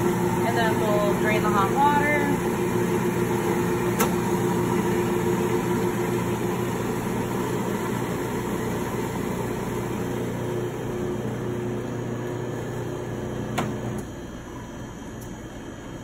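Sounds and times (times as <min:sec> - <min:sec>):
coffee grinder motor hum: 0:00.0 - 0:14.7.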